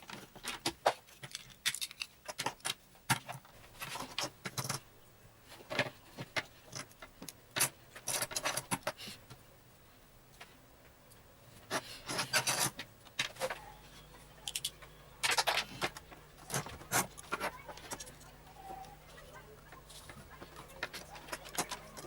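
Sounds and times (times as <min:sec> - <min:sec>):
rubbing and scraping of parts: 0:00.0 - 0:09.4, 0:10.3 - 0:22.0.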